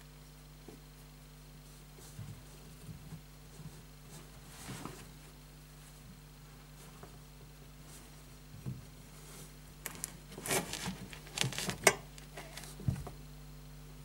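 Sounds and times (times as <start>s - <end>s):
faint low hum: 0.0s - 14.0s
rustles and small knocks: 0.6s - 13.2s.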